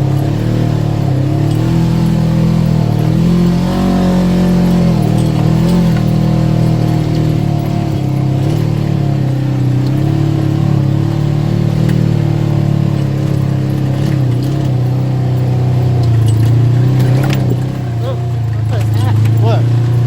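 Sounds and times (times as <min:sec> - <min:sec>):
atv engine droning: 0:00.0 - 0:20.0.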